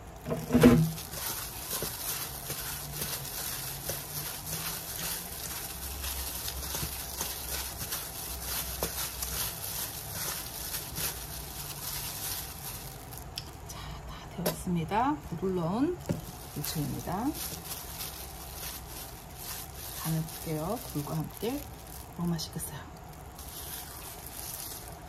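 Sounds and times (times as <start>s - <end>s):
plastic glove rustle: 0.0s - 13.7s, 14.8s - 25.0s
wet squishing: 0.4s - 13.6s, 16.0s - 25.0s.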